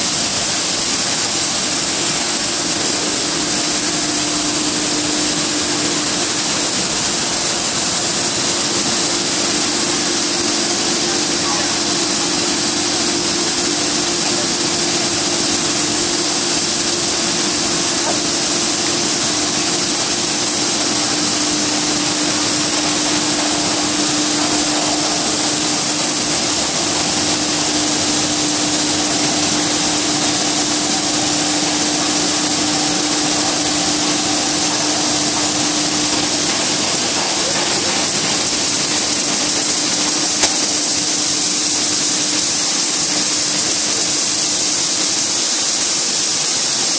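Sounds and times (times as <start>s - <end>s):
high hiss: 0.0s - 46.9s.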